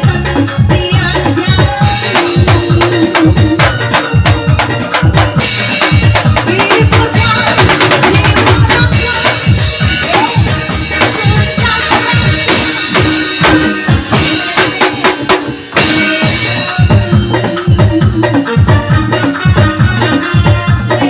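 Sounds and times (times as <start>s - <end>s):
upbeat remix music with drum beat: 0.0s - 21.0s.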